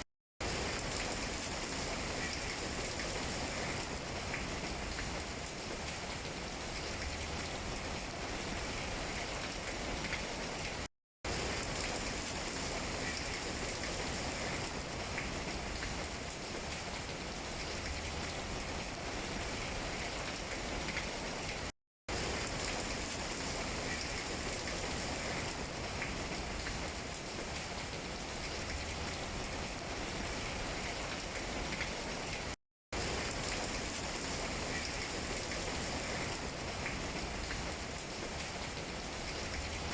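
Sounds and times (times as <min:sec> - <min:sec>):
rain falling on leaves: 0:00.4 - 0:39.9.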